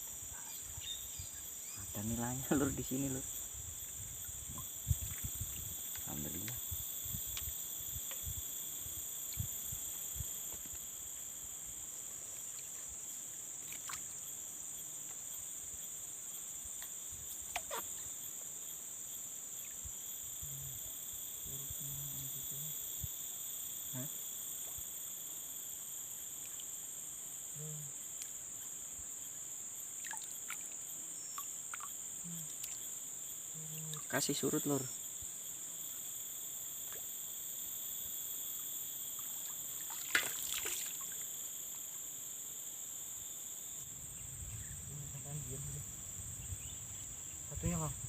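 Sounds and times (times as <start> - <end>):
insect chorus trilling: 0.0 - 48.0.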